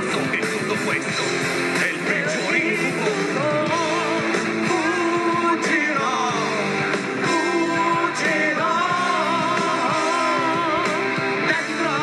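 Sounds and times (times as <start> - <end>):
live rock band playing: 0.0 - 12.0
person singing: 0.0 - 12.0.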